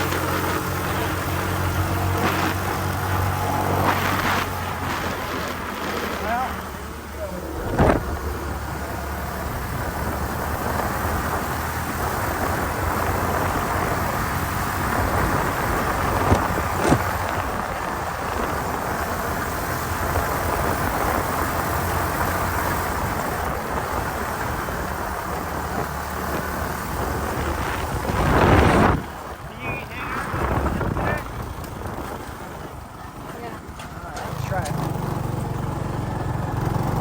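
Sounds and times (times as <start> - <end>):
motorcycle engine hum: 0.0 - 37.0
road and wind noise: 0.0 - 37.0.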